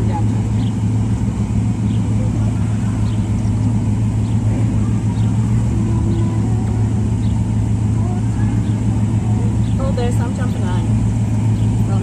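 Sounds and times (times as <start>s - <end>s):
vehicle engine low hum: 0.0s - 12.0s.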